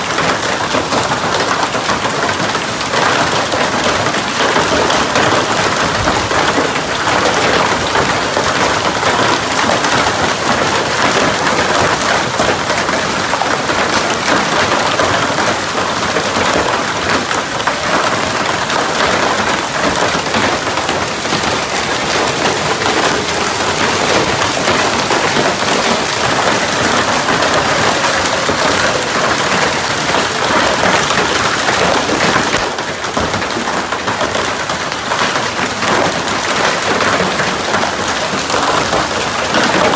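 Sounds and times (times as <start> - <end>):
hail pelting: 0.0 - 39.9.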